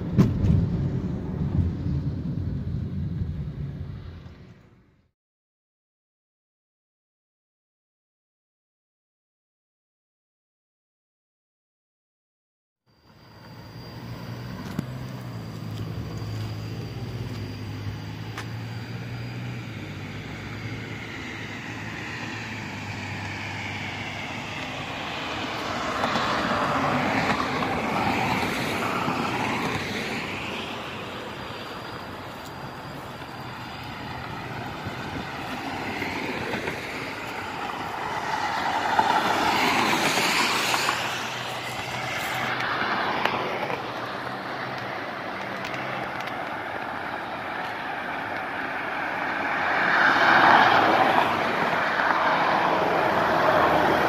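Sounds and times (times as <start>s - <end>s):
highway traffic passing: 0.0s - 5.1s, 12.9s - 54.0s.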